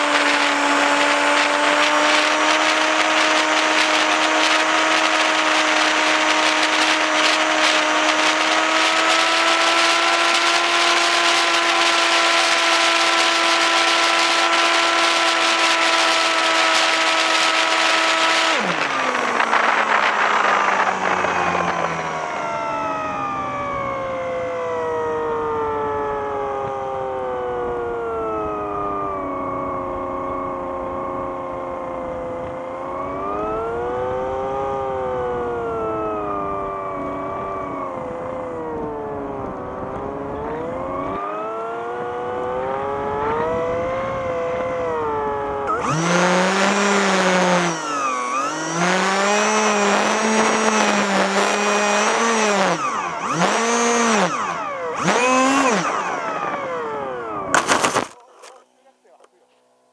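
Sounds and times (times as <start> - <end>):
model plane motor whining: 0.0 - 58.6.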